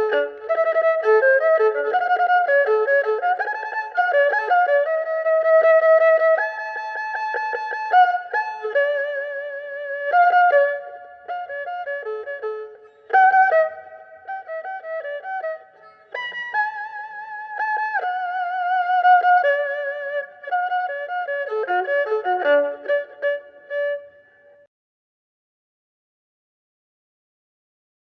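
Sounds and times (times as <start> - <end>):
erhu playing folk melody: 0.0 - 24.7.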